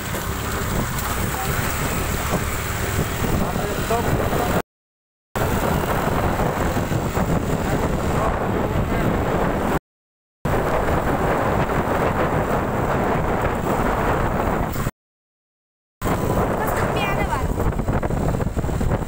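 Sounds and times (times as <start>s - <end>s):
scooter engine and road noise: 0.0s - 4.6s, 5.4s - 9.8s, 10.5s - 14.9s, 16.0s - 19.0s
wind buffeting microphone: 0.0s - 4.6s, 5.4s - 9.8s, 10.5s - 14.9s, 16.0s - 19.0s.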